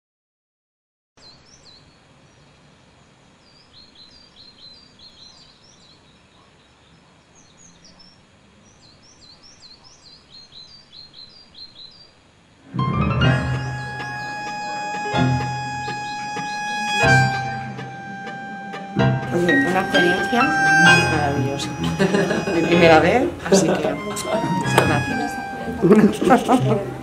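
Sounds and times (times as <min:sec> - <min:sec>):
birds chirping: 0:01.2 - 0:27.0
faint background noise: 0:01.2 - 0:27.0.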